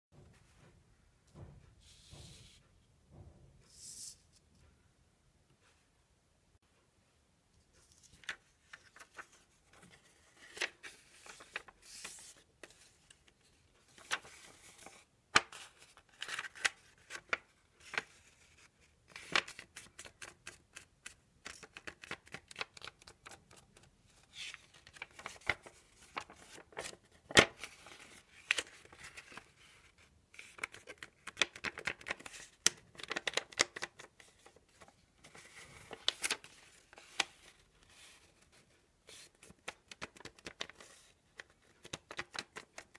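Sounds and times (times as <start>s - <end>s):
paper rustling and crinkling: 7.7s - 42.9s.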